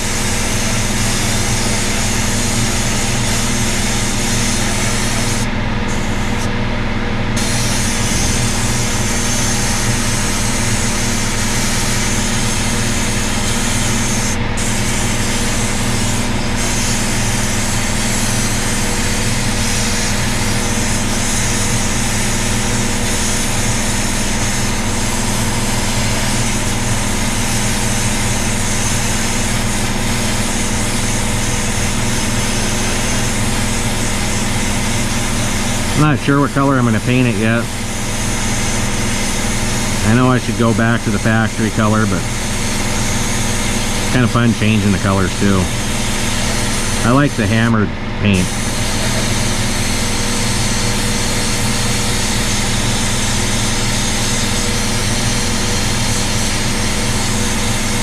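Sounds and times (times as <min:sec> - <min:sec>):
sandblaster hiss of air and grit: 0:00.0 - 0:06.6, 0:07.4 - 0:58.0
machine hum: 0:00.0 - 0:53.1.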